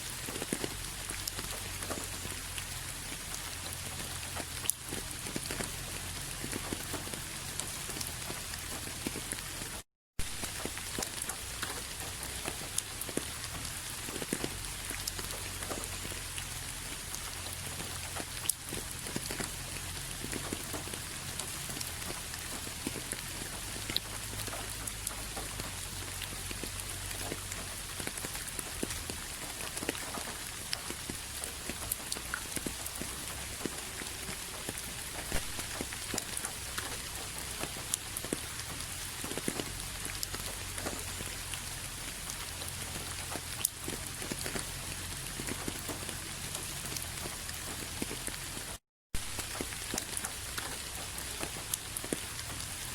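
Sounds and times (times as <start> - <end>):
rain drops striking a surface: 0.0 - 52.9.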